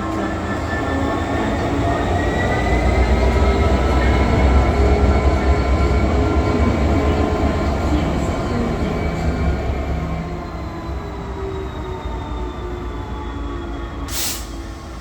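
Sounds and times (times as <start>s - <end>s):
diesel locomotive passing: 0.0s - 15.0s.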